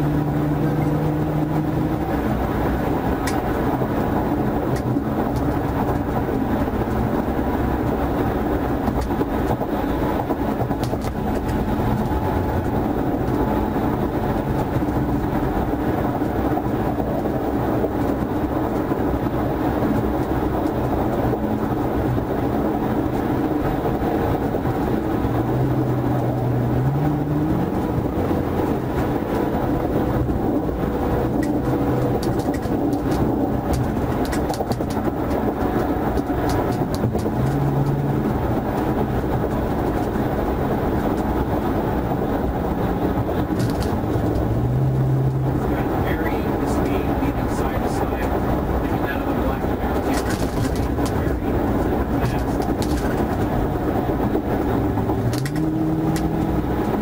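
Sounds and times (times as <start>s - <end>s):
car engine and tyre road noise: 0.0s - 57.0s.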